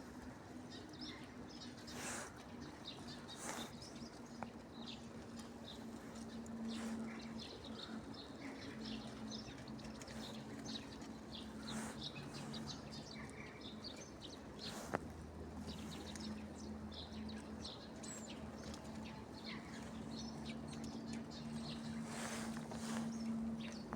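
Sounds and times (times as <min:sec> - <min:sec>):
small songbirds chirping: 0:00.0 - 0:23.9.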